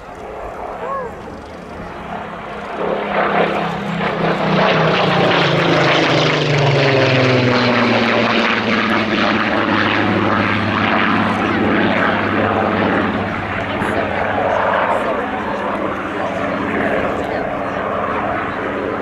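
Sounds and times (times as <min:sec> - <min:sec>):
propeller aircraft engine passing: 0:00.0 - 0:19.0.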